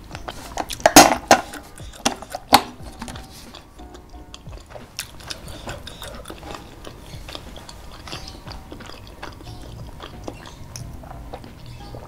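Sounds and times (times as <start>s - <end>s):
chewing and wet mouth smacks: 0.1s - 12.0s.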